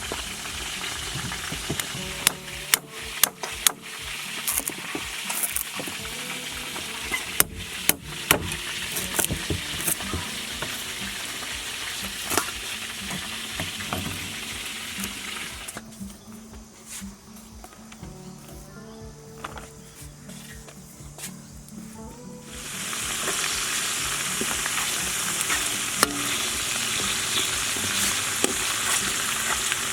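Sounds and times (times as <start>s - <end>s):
food sizzling in a pan: 0.0s - 17.9s, 19.8s - 29.9s.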